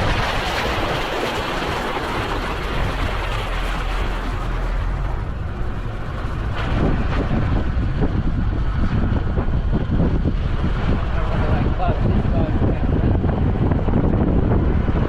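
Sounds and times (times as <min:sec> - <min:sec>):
vehicle jolts: 0:00.0 - 0:13.6
vehicle engine and road rumble: 0:00.0 - 0:15.0.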